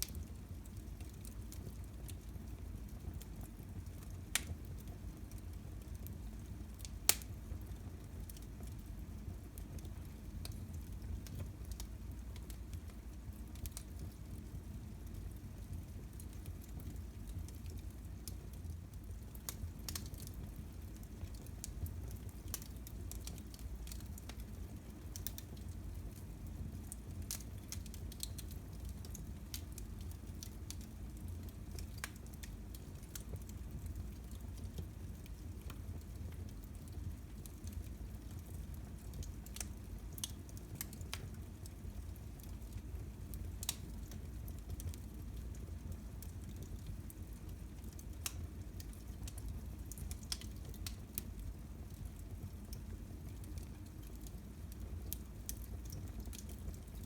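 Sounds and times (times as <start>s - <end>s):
fire crackling and popping: 0.0s - 57.0s
low rumble of burning: 0.0s - 57.0s.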